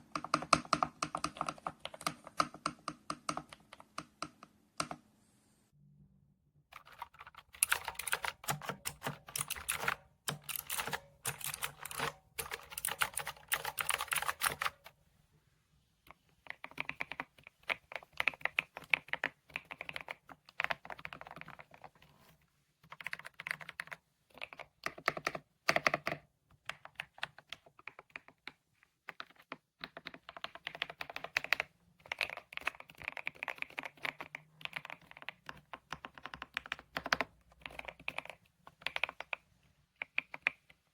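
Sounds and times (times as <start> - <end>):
mechanical keyboard typing: 0.0 - 5.0, 6.8 - 14.9, 16.4 - 22.2, 22.8 - 40.9.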